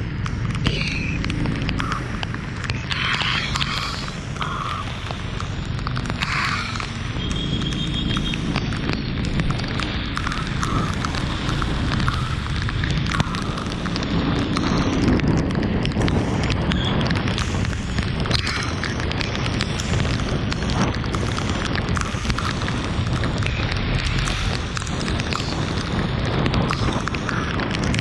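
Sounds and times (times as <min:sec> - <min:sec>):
heavy rain falling: 0:00.0 - 0:28.0
raindrops ticking on surfaces: 0:00.0 - 0:28.0.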